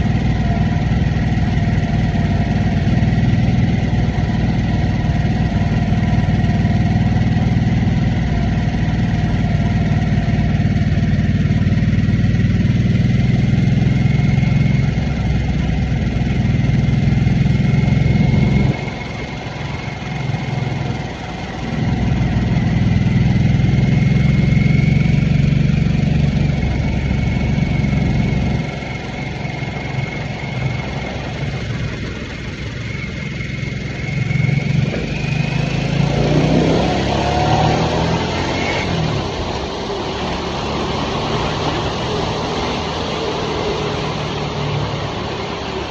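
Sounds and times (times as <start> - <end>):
motorcycle engine under throttle: 0.0 - 45.9.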